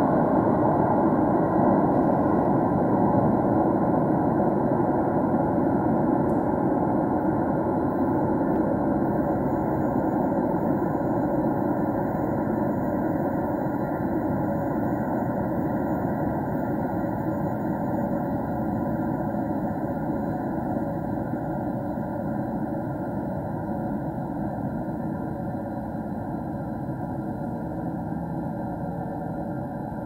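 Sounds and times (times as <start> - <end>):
low rumble in railway station: 0.0 - 30.0.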